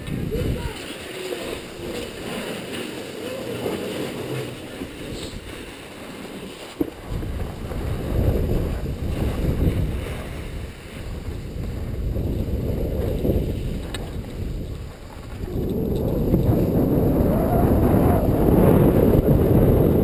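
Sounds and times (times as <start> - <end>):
wind rushing over microphone: 0.0 - 6.1, 6.8 - 20.0
skis sliding on packed snow: 0.0 - 20.0.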